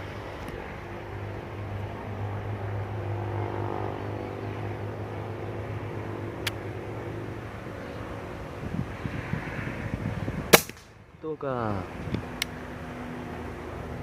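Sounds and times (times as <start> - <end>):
vehicle engine hum passing: 0.0 - 14.0.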